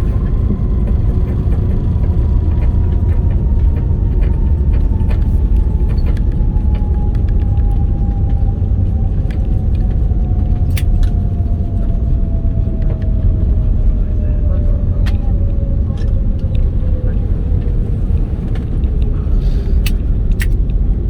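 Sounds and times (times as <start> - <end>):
jet engine whine falling: 0.0 - 21.0
light cabin rattles: 0.0 - 21.0
low rumble of wheels and engines: 0.0 - 21.0.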